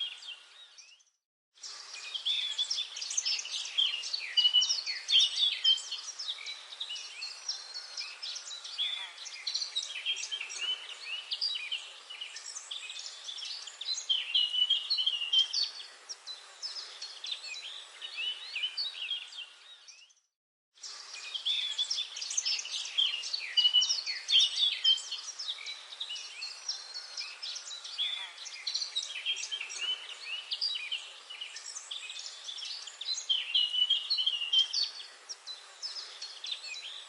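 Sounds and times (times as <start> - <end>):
songbirds chirping and singing: 0.0 - 37.0
faint hiss: 1.6 - 19.8, 20.8 - 37.0.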